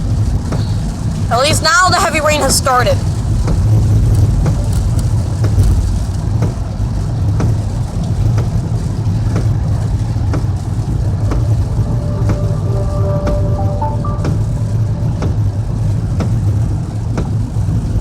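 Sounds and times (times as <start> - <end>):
car engine and tyres rumbling: 0.0 - 18.0
rain ticking on car: 0.0 - 18.0.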